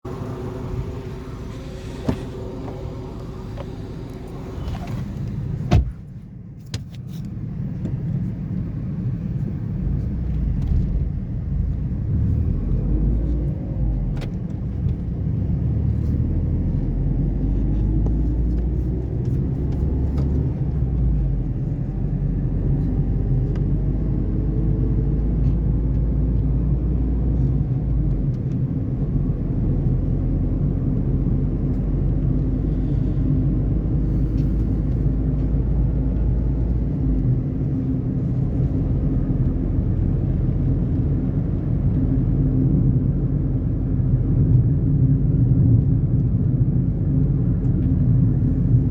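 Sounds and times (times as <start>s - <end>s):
car engine driving: 0.0s - 48.9s
low road rumble: 0.0s - 48.9s.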